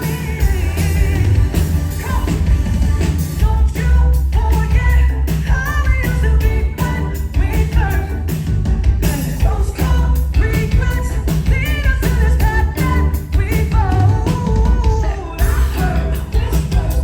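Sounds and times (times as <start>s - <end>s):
person singing: 0.0s - 8.3s, 9.0s - 17.0s
pop-rock band playing live: 0.0s - 17.0s.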